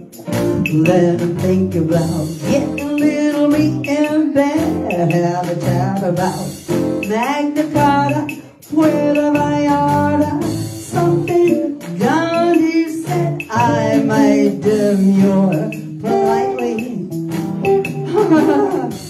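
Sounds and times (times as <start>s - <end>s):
acoustic guitar: 0.0s - 19.0s
person singing: 0.0s - 19.0s.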